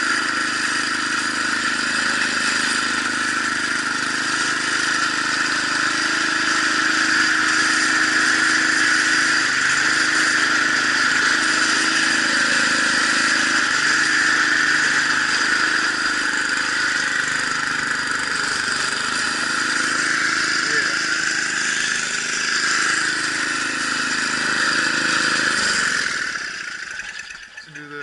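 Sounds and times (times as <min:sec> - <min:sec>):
snowblower engine running: 0:00.0 - 0:28.0.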